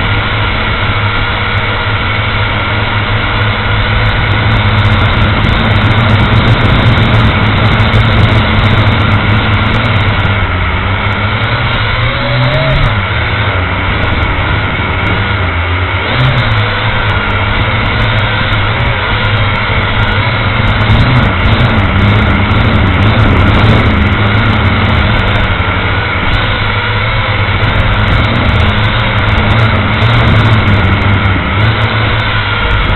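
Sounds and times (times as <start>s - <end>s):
model aircraft motors humming: 0.0s - 32.9s.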